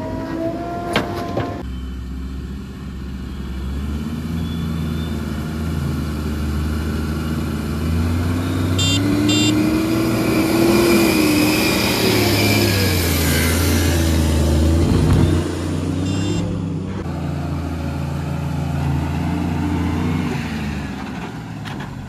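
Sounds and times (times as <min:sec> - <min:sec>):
diesel engine running and revving: 0:00.0 - 0:22.0.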